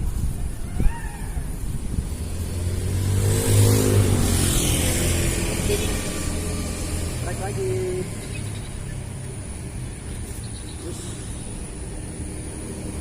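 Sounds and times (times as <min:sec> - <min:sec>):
vehicle passing by: 0:01.4 - 0:13.0.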